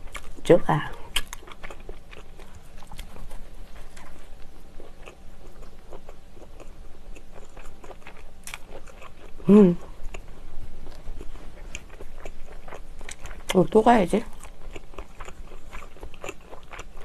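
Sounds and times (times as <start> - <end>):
person chewing soft bread: 0.0 - 17.0.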